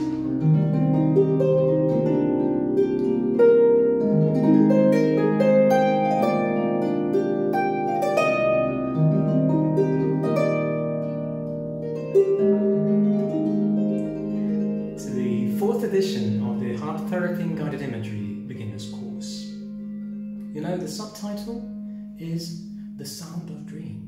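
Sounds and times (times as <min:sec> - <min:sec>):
harp plucked notes: 0:00.0 - 0:24.0.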